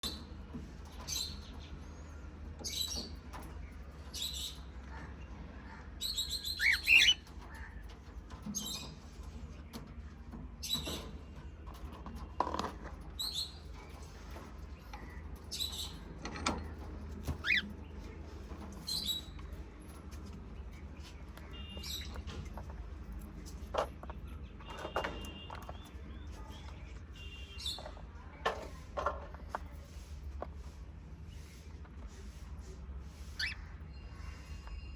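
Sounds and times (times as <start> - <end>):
birds chirping: 0.0 - 28.4, 31.1 - 34.9.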